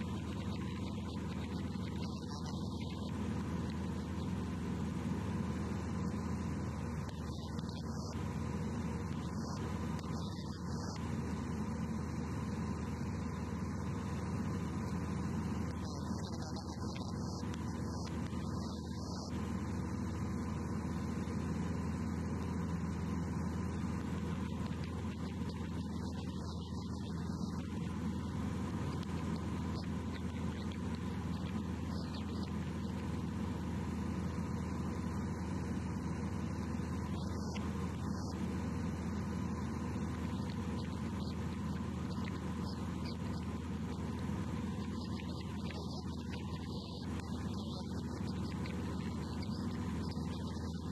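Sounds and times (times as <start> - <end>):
aircraft piston engine droning: 0.0 - 50.9.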